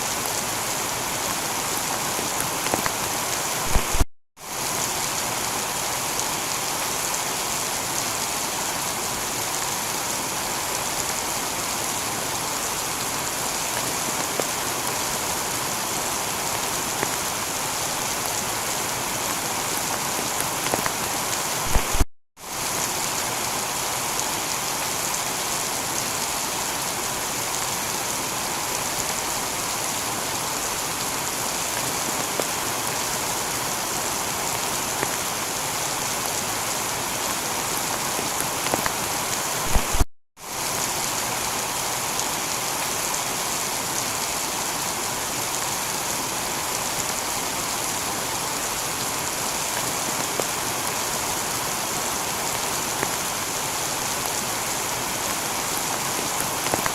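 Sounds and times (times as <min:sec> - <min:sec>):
heavy rain on a tiled roof: 0:00.0 - 0:56.9.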